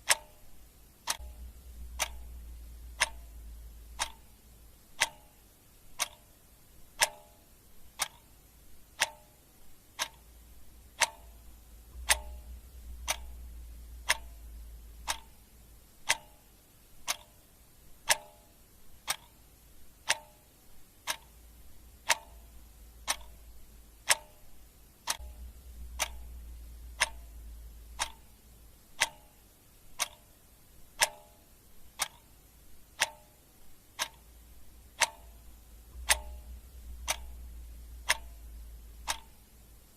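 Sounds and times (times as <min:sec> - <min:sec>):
clock ticking: 0:00.0 - 0:39.9
faint low rumble: 0:00.0 - 0:39.9.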